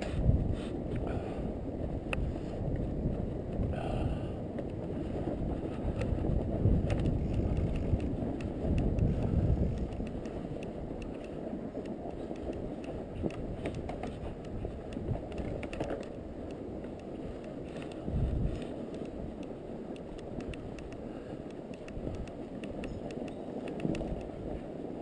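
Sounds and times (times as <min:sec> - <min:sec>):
bike clicks and rattles: 0:00.0 - 0:25.0
wind and tyre rumble: 0:00.0 - 0:25.0.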